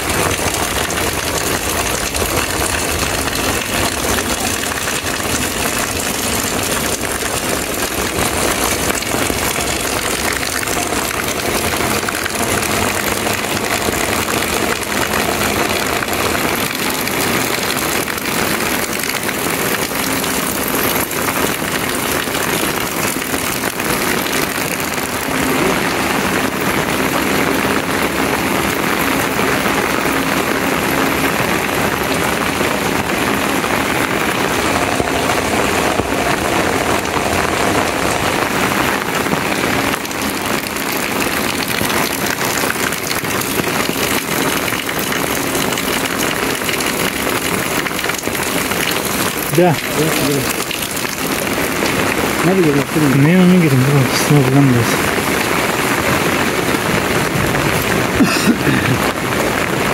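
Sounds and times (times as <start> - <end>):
heavy rain on flooded street: 0.0 - 59.9.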